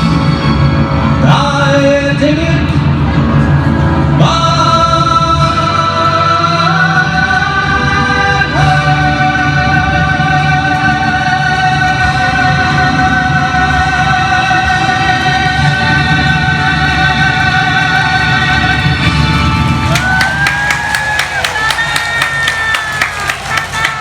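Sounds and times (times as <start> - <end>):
live band closing chord: 0.0 - 24.0.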